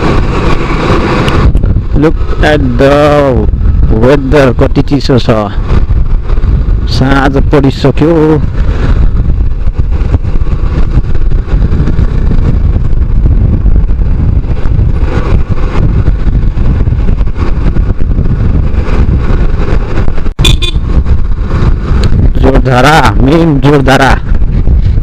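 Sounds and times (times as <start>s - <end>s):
motorcycle running: 0.0s - 25.0s
wind rumble on microphone: 0.0s - 25.0s.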